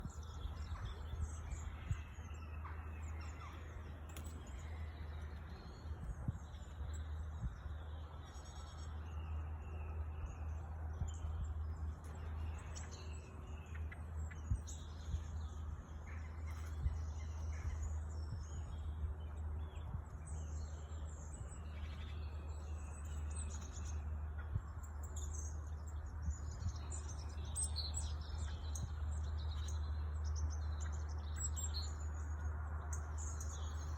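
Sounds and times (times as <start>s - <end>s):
songbirds singing and chirping: 0.0s - 33.9s.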